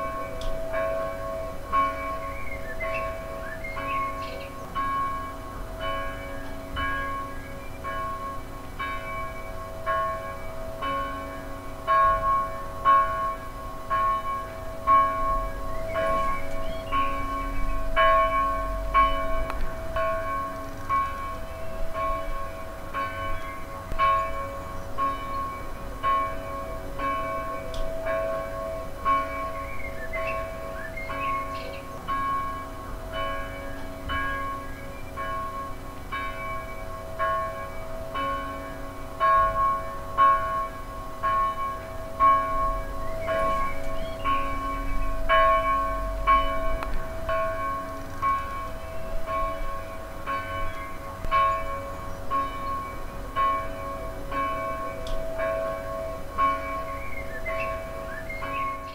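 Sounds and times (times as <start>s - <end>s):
church bell struck: 0.0s - 58.9s
hum of larger bells: 0.0s - 58.9s.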